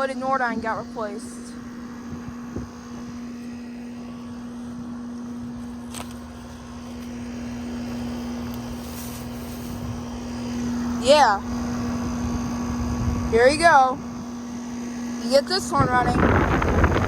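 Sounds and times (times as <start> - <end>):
air conditioner condenser running: 0.0 - 17.0.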